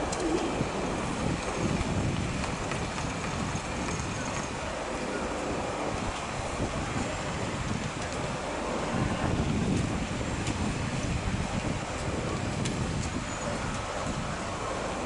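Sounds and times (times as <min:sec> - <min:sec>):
moving train rumbling: 0:00.0 - 0:15.0
wind noise on microphone: 0:00.0 - 0:15.0.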